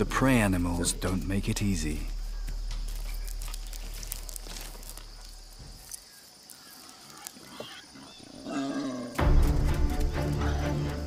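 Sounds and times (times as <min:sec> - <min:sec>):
high insect buzz: 0:00.0 - 0:11.0.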